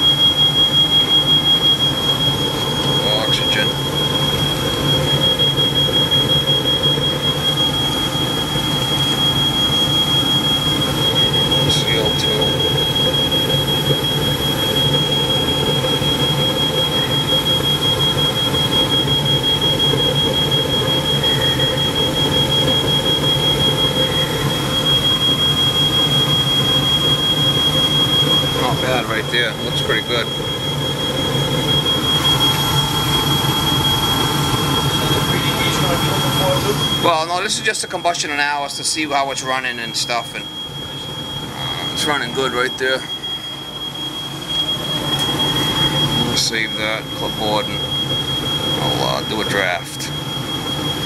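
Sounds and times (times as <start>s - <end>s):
gas furnace running: 0.0s - 51.0s
smoke alarm tone: 0.0s - 51.0s.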